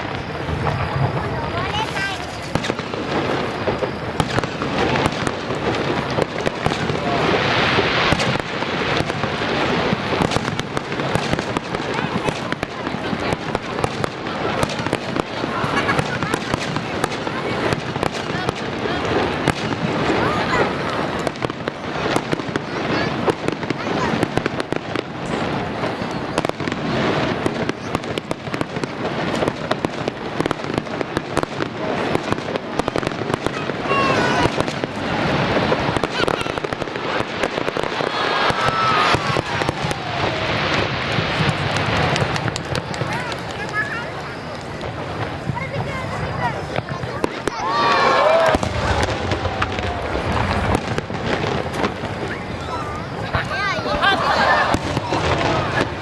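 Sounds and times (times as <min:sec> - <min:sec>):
fireworks bursting: 0:00.0 - 0:56.0
fireworks crackling: 0:00.0 - 0:56.0.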